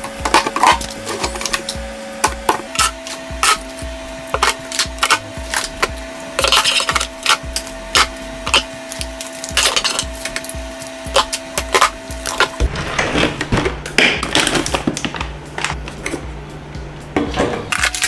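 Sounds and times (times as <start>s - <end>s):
background music with steady beat: 0.0s - 18.0s.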